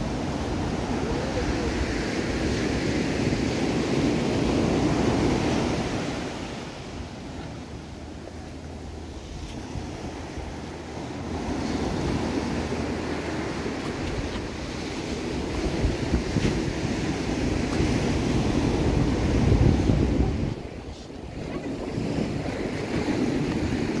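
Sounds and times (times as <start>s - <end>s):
ocean surf washing onto beach: 0.0s - 24.0s
wind buffeting the microphone: 0.0s - 24.0s.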